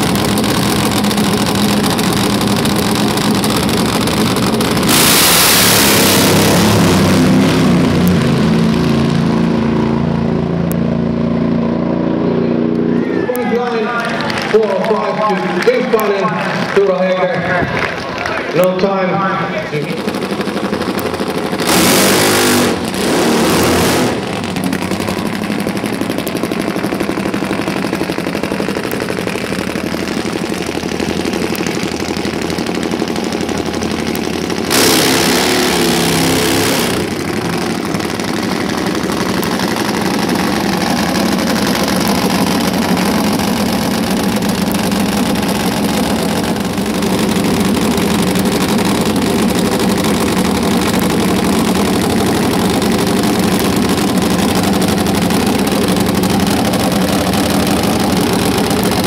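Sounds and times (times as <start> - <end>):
drag bike engines revving: 0.0 - 59.0.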